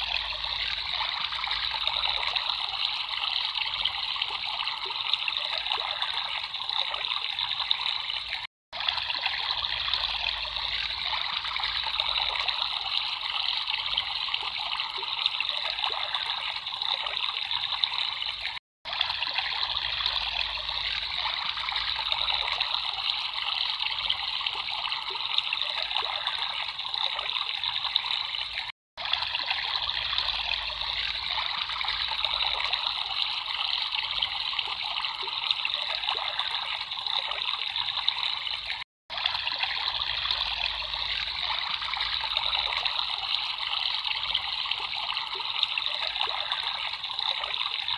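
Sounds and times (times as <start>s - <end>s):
water trickling and babbling: 0.0s - 47.9s.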